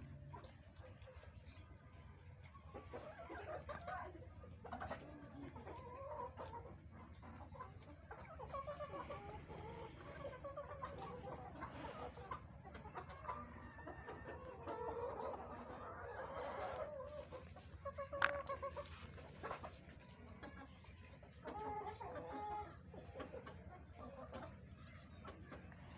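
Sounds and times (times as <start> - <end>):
hens clucking: 0.0 - 25.9.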